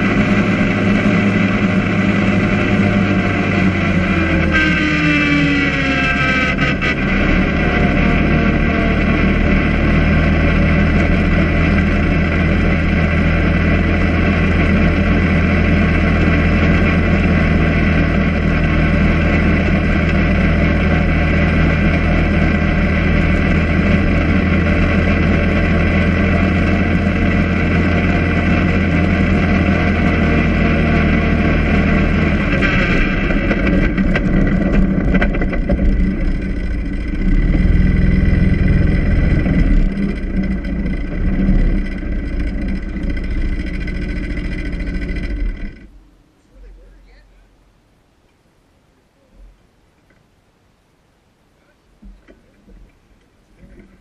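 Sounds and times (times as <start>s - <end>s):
quad bike engine running: 0.0s - 47.6s, 52.0s - 54.0s.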